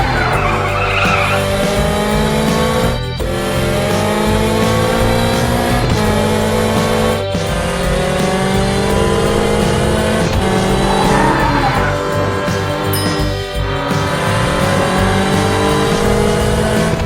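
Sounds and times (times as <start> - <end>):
background music: 0.0 - 17.0
cartoon car engine revving: 0.0 - 17.0.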